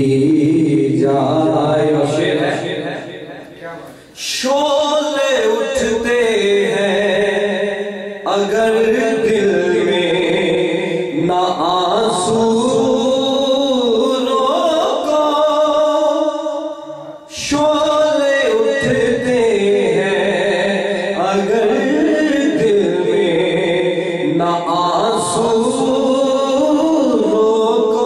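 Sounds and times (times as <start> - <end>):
man singing into a microphone: 0.0 - 28.0.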